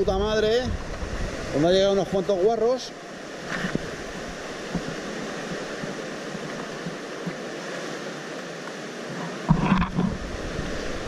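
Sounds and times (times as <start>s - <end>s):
sea surf washing in a cave: 0.0s - 11.0s.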